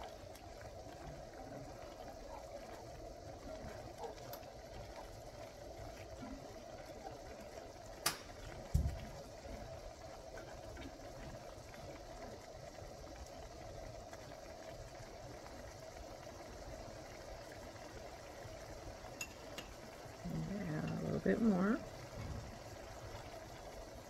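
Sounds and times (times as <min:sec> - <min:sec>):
kitchen background hum: 0:00.0 - 0:24.0.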